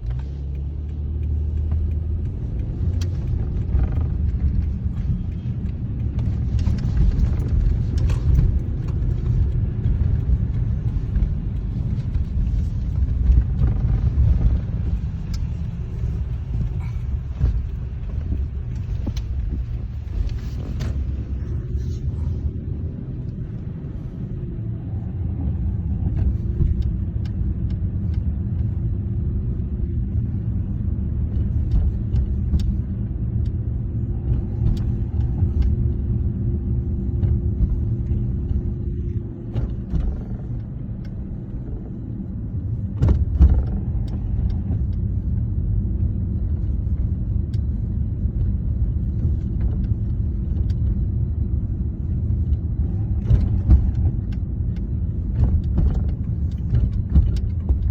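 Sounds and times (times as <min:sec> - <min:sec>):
light ticks: 0:00.0 - 0:57.9
vehicle engine rumbling: 0:00.0 - 0:57.9.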